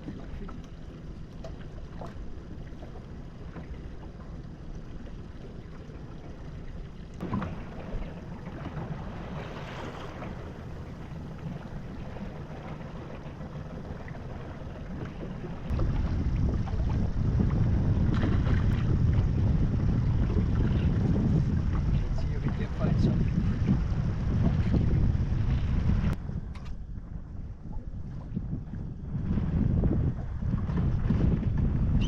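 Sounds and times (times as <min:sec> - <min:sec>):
boat engine running: 0:00.0 - 0:32.0
wind buffeting microphone: 0:00.0 - 0:32.0.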